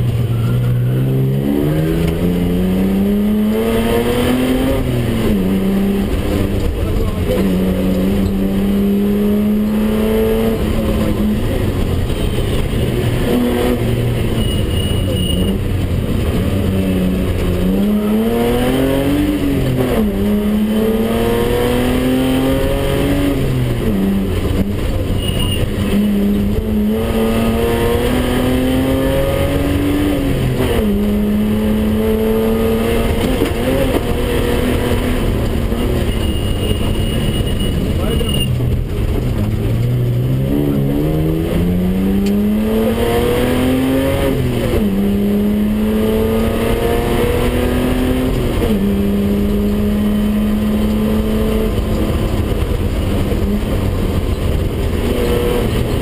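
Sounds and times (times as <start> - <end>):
car engine accelerating through gears: 0.0 - 12.1, 12.8 - 56.0
road noise: 0.0 - 56.0.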